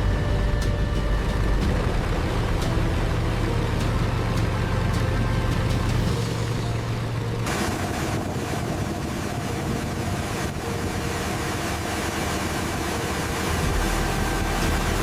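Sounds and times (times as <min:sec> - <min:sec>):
piston aircraft engine running: 0:00.0 - 0:15.0.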